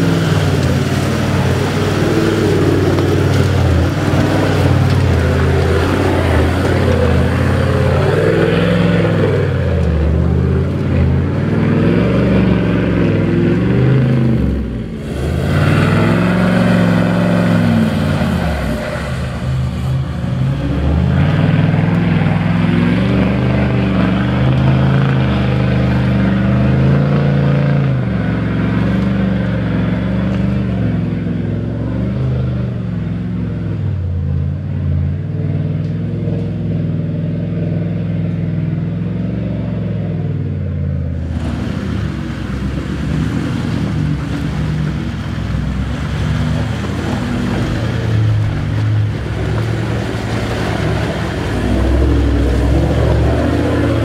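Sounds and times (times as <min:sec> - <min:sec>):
engine labouring through mud: 0:00.0 - 0:54.0
engine working hard: 0:00.0 - 0:54.0.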